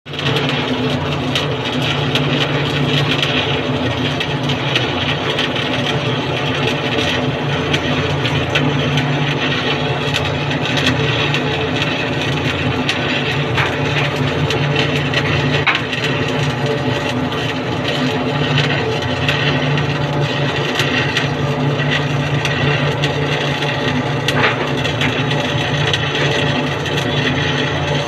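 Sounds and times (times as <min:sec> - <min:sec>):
arc welding crackling sizzle: 0:00.1 - 0:28.0
welding machine hum: 0:00.1 - 0:28.0.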